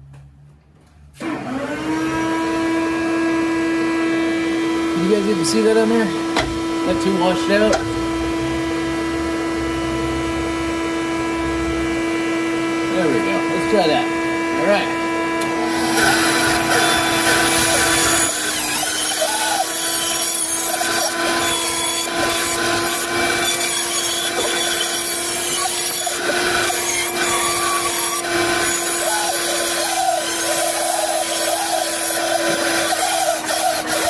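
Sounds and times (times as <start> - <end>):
bandsaw cutting wood: 1.2 - 34.0.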